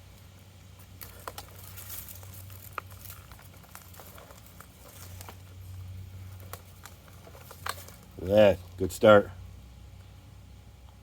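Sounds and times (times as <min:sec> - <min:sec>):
steady low hum: 0:00.0 - 0:11.0
hands rustling soil and foliage: 0:00.1 - 0:09.0.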